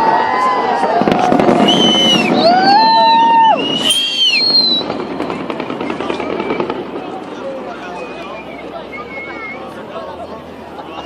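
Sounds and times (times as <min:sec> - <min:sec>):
fireworks whistling: 0:00.0 - 0:09.9
fireworks crackling and bursting: 0:00.0 - 0:10.0.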